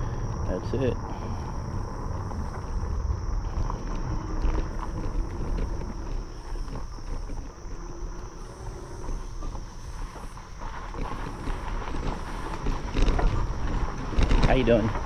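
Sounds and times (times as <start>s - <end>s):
steady high whine: 0.0s - 15.0s
tires rumbling over path: 0.0s - 15.0s
wind buffeting microphone: 0.0s - 15.0s.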